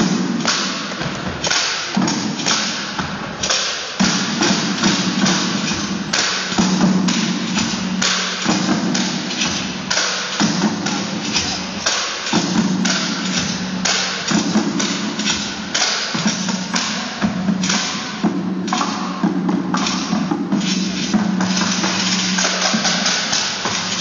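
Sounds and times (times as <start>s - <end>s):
bucket and drum percussion: 0.0s - 24.0s.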